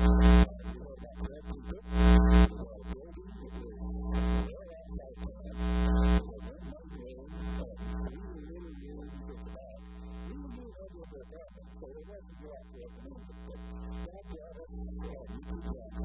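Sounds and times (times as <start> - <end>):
electrical mains hum: 0.0 - 16.0
man's indistinct voice: 0.0 - 16.0.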